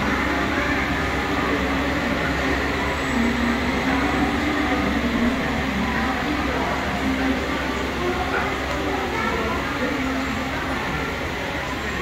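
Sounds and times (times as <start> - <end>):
standing train rumble and hum: 0.0 - 12.0.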